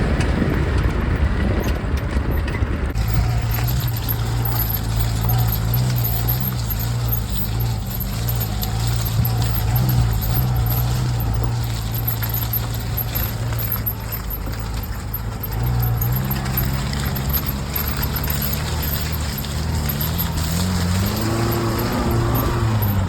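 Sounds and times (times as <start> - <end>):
jeep engine running: 0.0 - 23.0.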